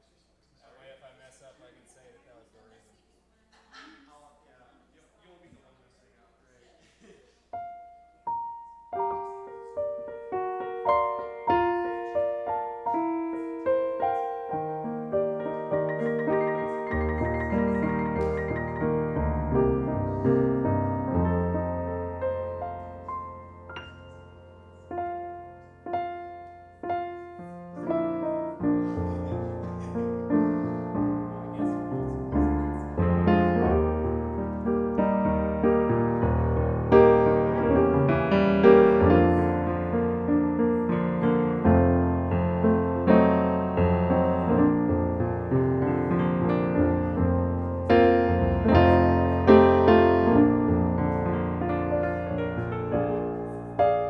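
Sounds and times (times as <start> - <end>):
solo piano: 7.5 - 54.0.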